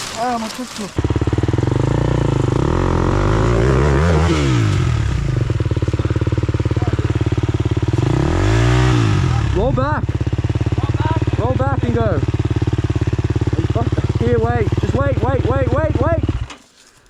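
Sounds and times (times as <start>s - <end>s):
dirt bike engine revving: 0.0s - 16.5s.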